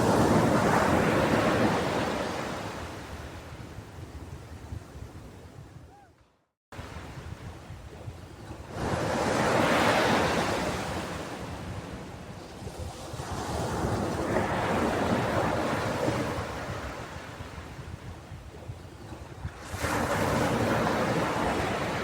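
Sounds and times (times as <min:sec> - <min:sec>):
ocean waves breaking on beach: 0:00.0 - 0:06.0, 0:06.8 - 0:22.0.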